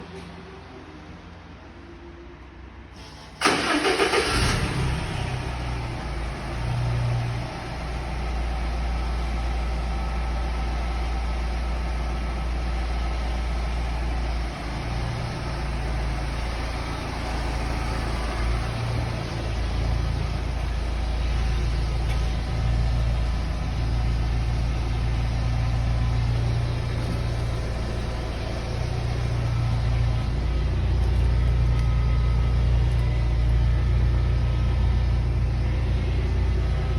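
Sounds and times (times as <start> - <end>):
engine starting and idling: 3.0 - 36.9.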